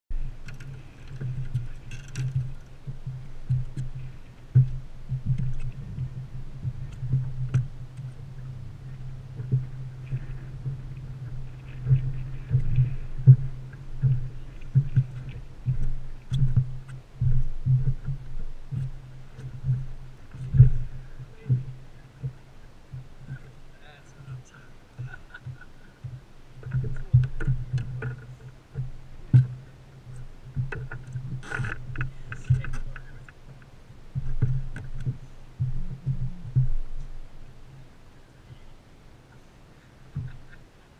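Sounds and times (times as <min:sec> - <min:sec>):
steady low hum: 0:00.1 - 0:40.9
water slapping boat hull: 0:00.1 - 0:40.9.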